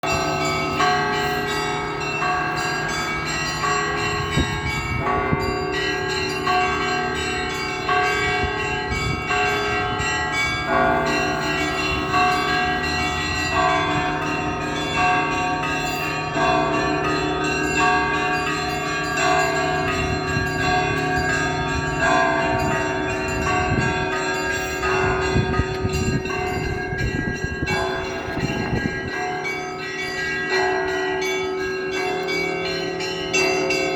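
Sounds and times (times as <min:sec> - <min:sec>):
church bells ringing: 0:00.0 - 0:33.9
low hum of large bell: 0:00.0 - 0:33.9.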